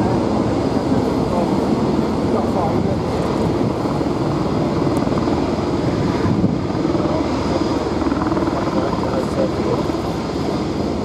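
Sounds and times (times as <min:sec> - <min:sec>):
turboprop engines droning: 0:00.0 - 0:11.0.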